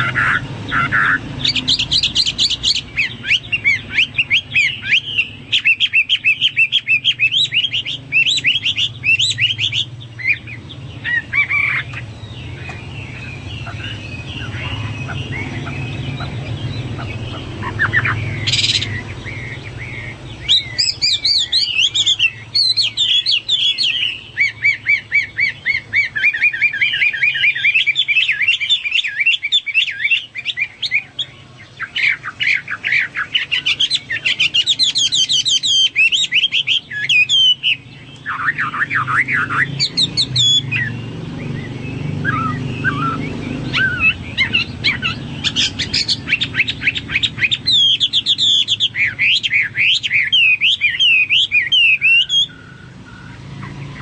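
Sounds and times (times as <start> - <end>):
bird singing trills: 0.0 - 54.0.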